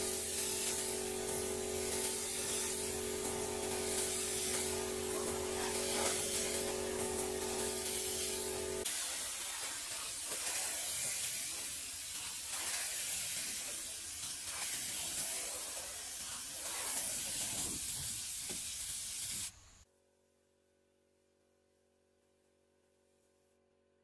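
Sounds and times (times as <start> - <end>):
spray gun hissing: 0.0 - 19.6.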